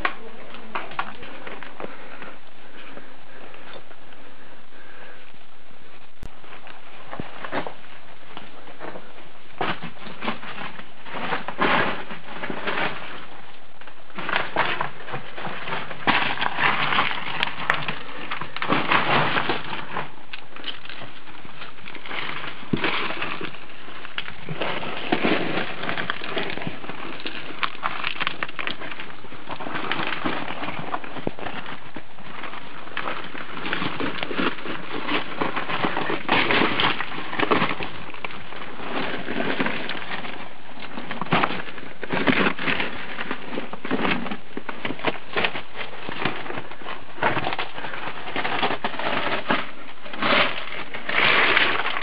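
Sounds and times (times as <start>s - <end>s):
footsteps on loose rock rubble: 0.0s - 5.2s, 5.9s - 52.0s.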